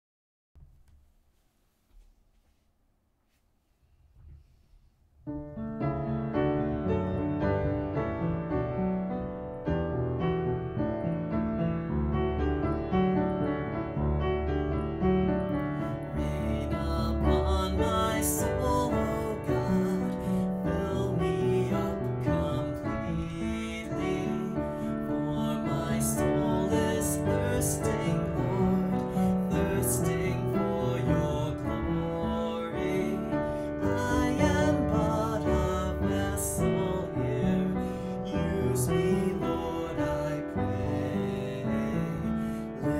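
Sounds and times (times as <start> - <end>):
slow worship song on piano: 5.4 - 42.9.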